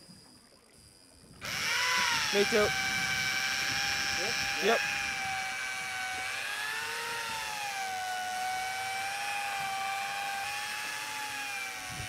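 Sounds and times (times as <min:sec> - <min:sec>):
electric fishing reel motor whining: 0:00.7 - 0:12.0.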